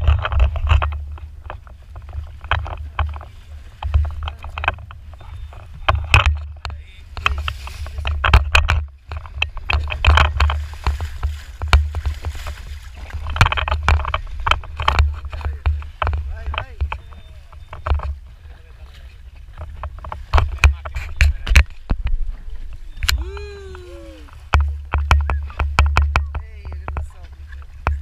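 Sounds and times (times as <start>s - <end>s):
boat low rumble: 0.0s - 28.0s
water slapping against hull: 0.0s - 28.0s.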